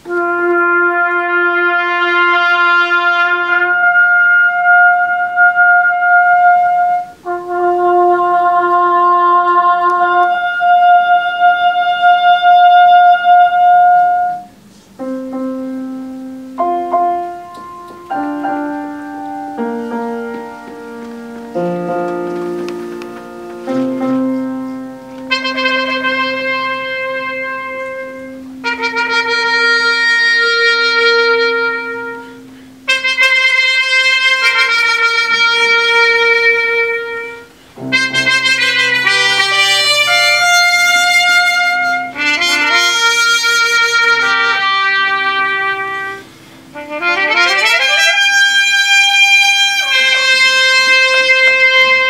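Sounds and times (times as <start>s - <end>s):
piano chords: 0.0s - 52.0s
trumpets playing: 0.0s - 52.0s.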